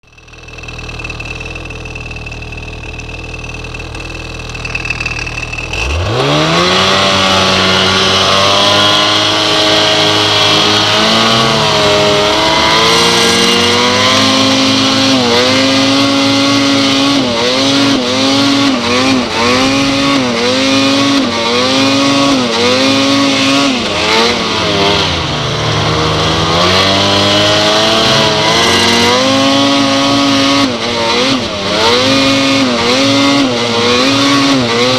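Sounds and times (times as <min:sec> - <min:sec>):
snowmobile engine revving: 0:00.0 - 0:34.9.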